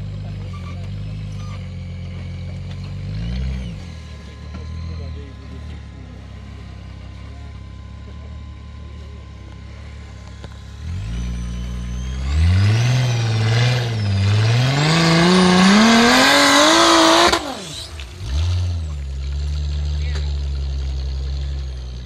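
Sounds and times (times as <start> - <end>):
buggy engine idling and revving: 0.0 - 22.0.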